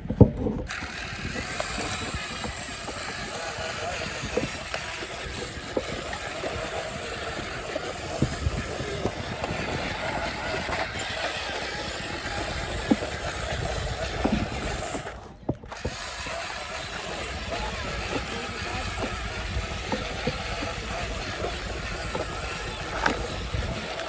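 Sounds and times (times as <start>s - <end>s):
toy truck mechanical whir: 0.0s - 24.0s.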